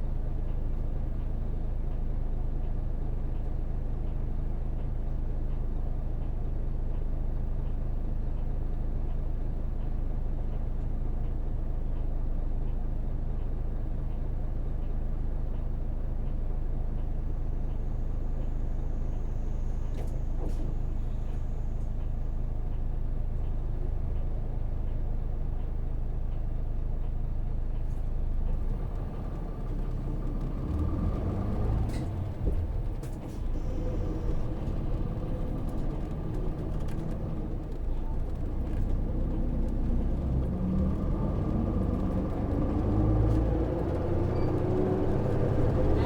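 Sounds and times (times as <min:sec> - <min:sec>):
bus diesel engine rumble: 0:00.0 - 0:46.0.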